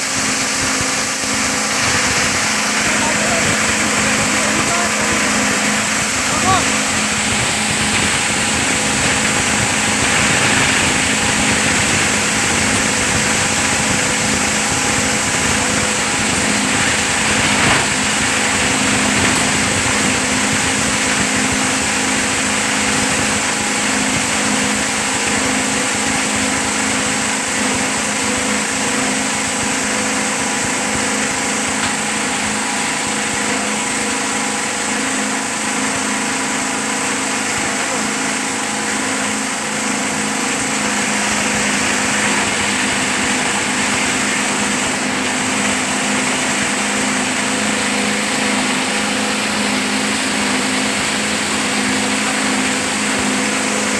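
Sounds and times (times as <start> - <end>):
grinder machine humming and whirring: 0.0 - 53.9.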